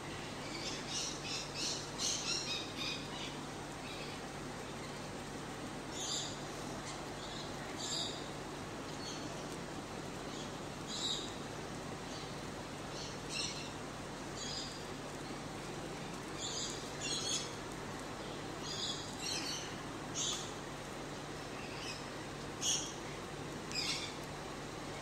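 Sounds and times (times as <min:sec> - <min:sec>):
steady low hum: 0:00.0 - 0:25.0
small birds chirping: 0:00.1 - 0:25.0.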